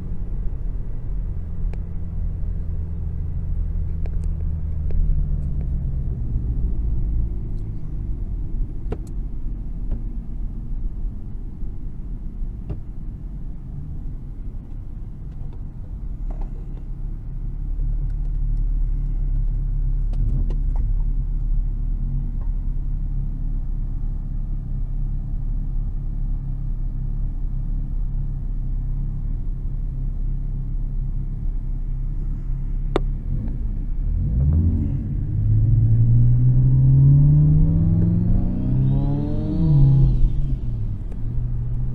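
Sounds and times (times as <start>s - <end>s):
car engine running: 0.0s - 41.9s.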